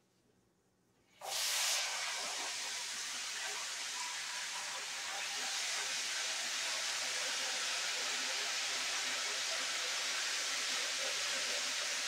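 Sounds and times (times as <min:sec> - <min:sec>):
oil sizzling in a pan: 0:01.2 - 0:12.0.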